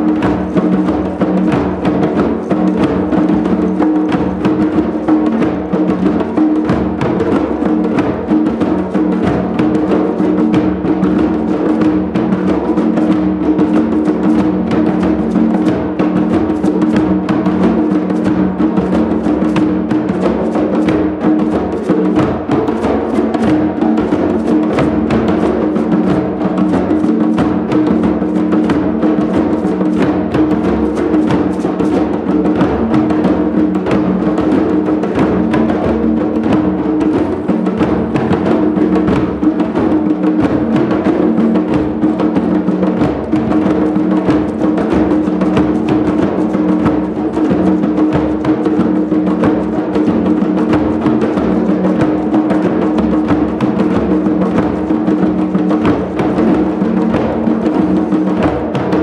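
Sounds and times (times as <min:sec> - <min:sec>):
group hand drumming: 0:00.0 - 0:59.0.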